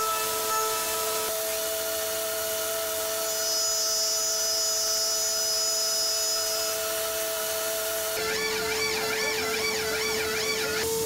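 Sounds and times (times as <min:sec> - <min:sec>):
higher machine whine: 0:00.0 - 0:06.8, 0:08.1 - 0:11.0
milling machine cutting metal whine: 0:00.0 - 0:11.0.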